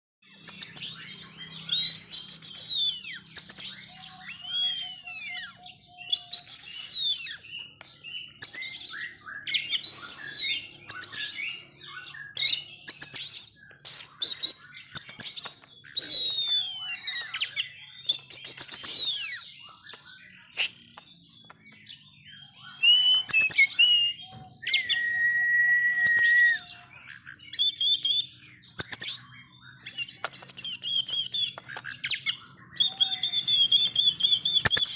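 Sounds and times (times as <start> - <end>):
songbird singing: 0.2 - 34.9.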